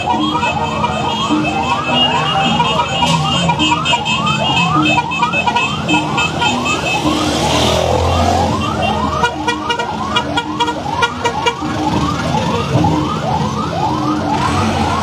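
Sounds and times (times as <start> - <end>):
music: 0.0 - 14.3
siren whooping upward: 0.0 - 15.0.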